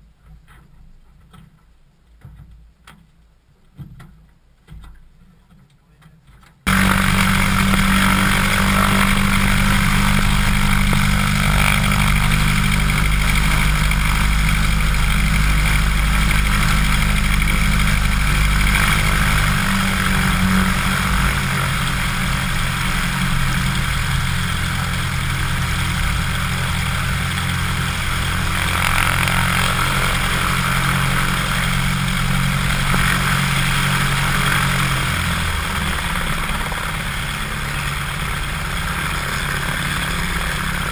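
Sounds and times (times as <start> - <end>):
light aircraft engine and propeller: 6.7 - 40.9.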